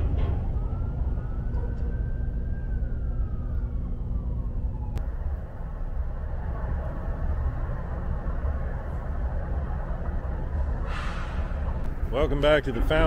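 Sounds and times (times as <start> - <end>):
distant siren wailing: 0.0 - 13.0
steady low rumble: 0.0 - 13.0.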